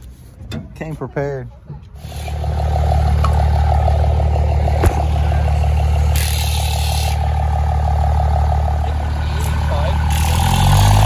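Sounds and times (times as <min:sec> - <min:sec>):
diesel truck engine idling: 0:01.0 - 0:11.0.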